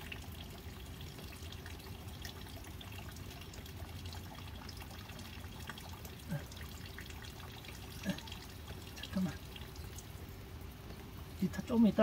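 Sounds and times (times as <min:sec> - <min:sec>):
steady rain: 0:00.0 - 0:12.0
water dripping: 0:00.0 - 0:12.0.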